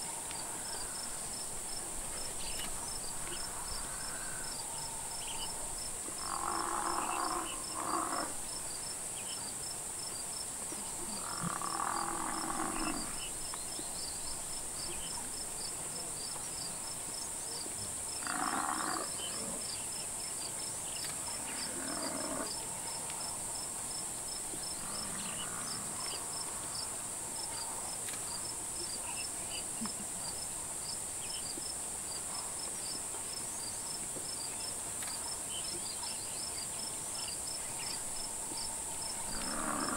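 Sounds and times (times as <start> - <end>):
crickets chirping: 0.0 - 39.9
high insect drone: 0.0 - 39.9.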